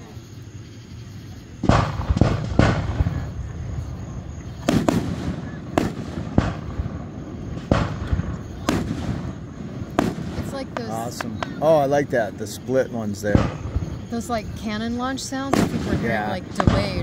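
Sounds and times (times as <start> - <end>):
firework shells booming: 1.6 - 17.0.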